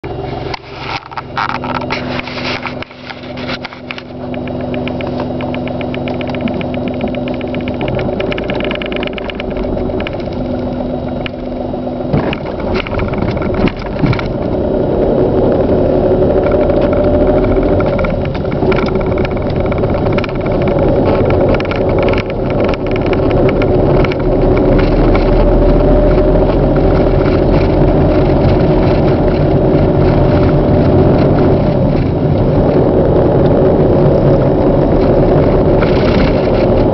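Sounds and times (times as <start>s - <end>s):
car engine running: 0.0s - 36.9s.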